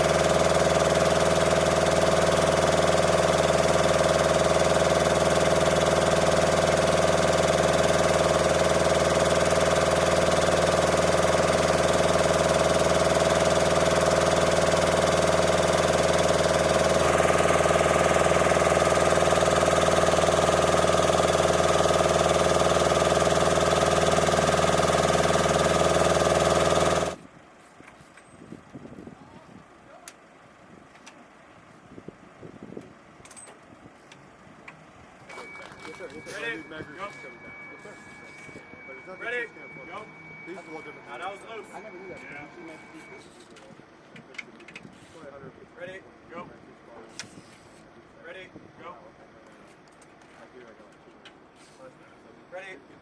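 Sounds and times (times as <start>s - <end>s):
engine idling: 0.0s - 48.4s.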